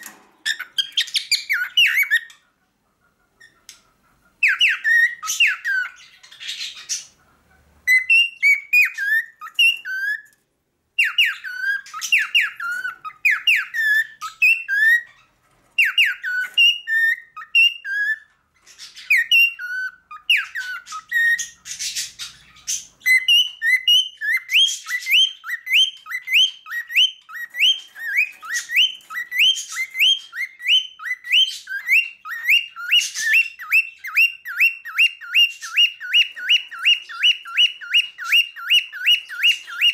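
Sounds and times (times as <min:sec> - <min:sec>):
cockatiel whistling song: 0:00.0 - 0:02.4, 0:04.4 - 0:07.2, 0:07.8 - 0:10.4, 0:11.0 - 0:39.9
harsh scratchy bird calls: 0:00.0 - 0:10.4, 0:11.0 - 0:39.9.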